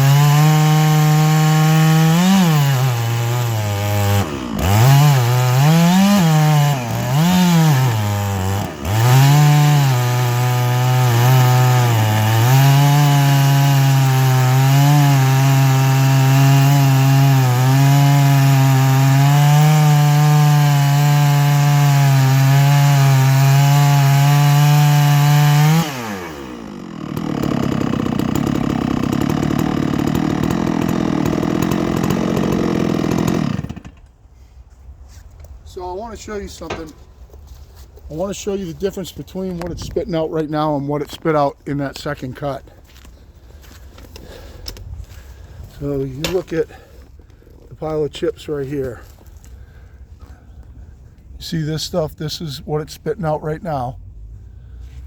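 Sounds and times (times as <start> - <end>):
chainsaw cutting log: 0.0 - 34.2, 38.2 - 50.4.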